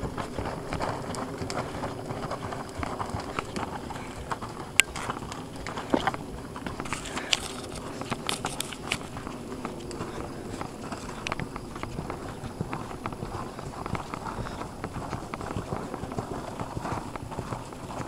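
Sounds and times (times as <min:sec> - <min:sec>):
horse hoofbeats on sand: 0:00.0 - 0:18.0.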